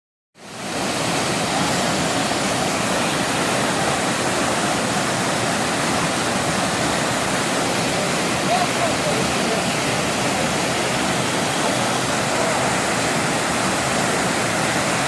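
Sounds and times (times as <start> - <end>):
rushing water roar: 0.4 - 15.0.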